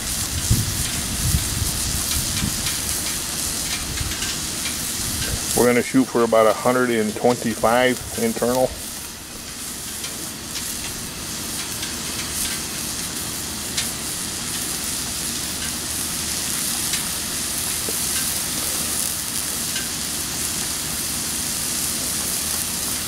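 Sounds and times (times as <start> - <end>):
steak sizzling on griddle: 0.0 - 23.0.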